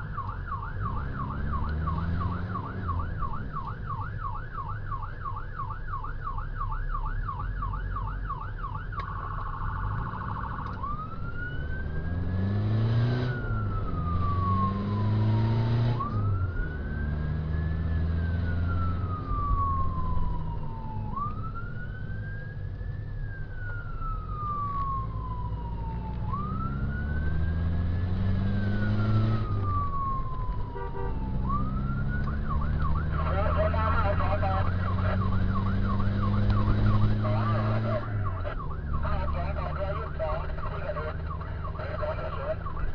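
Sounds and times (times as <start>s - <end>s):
vehicle engine drone: 0.0s - 6.7s, 7.5s - 42.9s
electronic siren: 0.0s - 42.9s
road noise: 0.0s - 42.9s.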